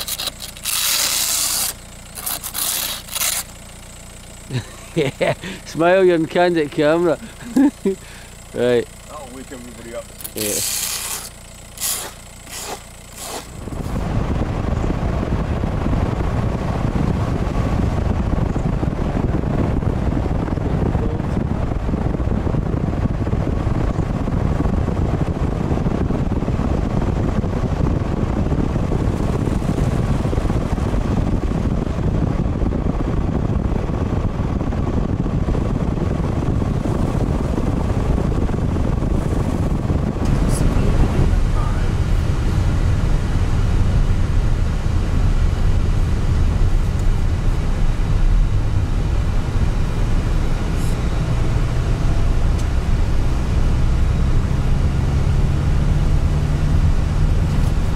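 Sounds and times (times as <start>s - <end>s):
car engine and tyre noise: 0.0s - 57.9s.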